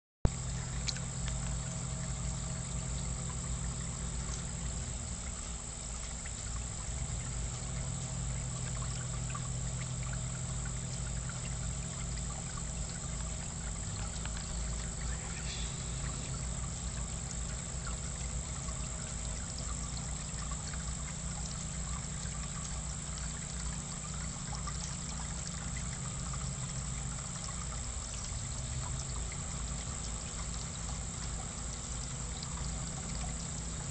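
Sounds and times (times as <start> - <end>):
low steady hum: 0.3 - 33.9
water running and trickling: 0.3 - 33.9.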